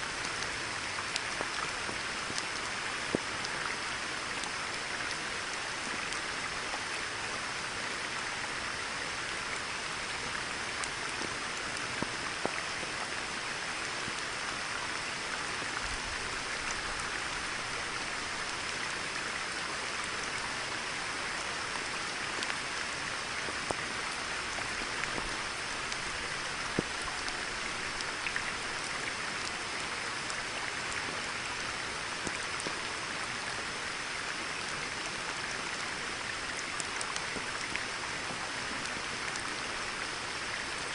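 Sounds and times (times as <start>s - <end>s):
rain falling on a pond: 0.0s - 40.9s.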